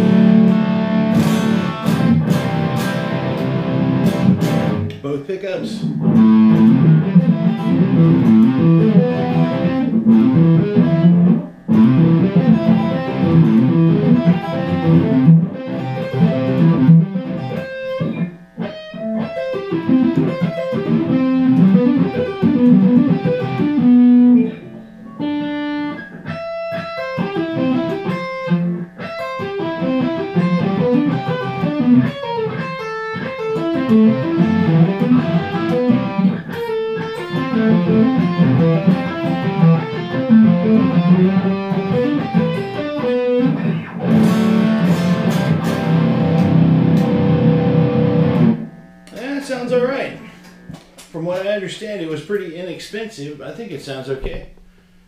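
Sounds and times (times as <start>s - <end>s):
electric guitar shredding: 0.0s - 52.7s.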